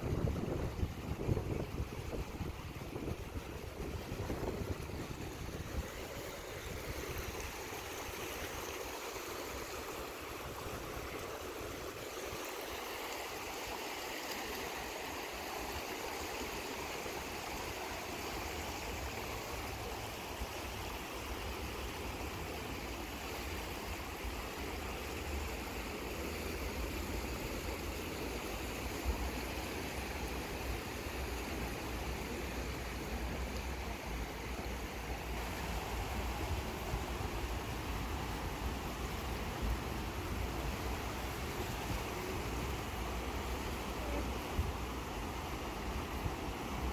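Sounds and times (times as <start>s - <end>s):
rushing whitewater: 0.0s - 46.9s.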